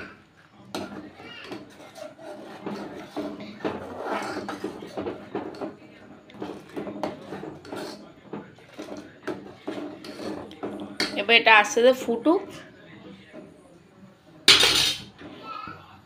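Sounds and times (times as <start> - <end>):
metal ladle scraping a pot: 0.7 - 13.6.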